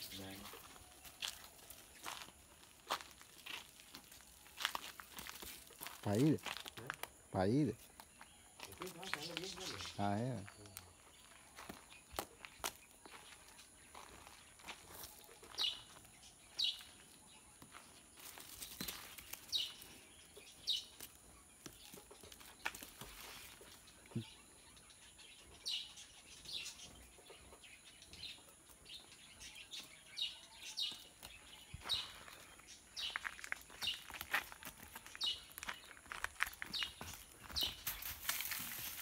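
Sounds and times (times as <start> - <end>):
bird chirping: 0.0 - 39.0.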